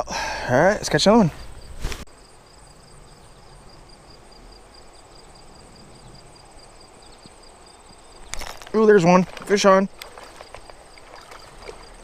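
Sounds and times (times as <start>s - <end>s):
soft outdoor background hush: 0.0s - 12.0s
high-pitched insect chirping: 1.4s - 12.0s.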